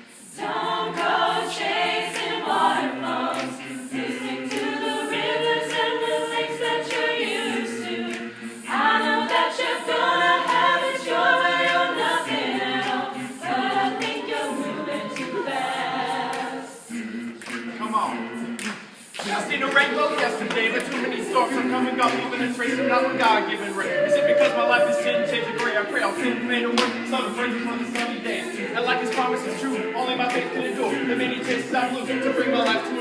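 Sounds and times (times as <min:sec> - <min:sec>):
a cappella group singing in harmony: 0:00.0 - 0:33.0.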